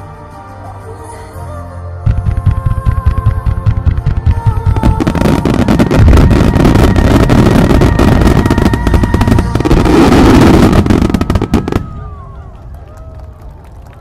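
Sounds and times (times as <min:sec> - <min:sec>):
music: 0:00.0 - 0:12.8
fireworks bangs and crackles: 0:02.1 - 0:13.7.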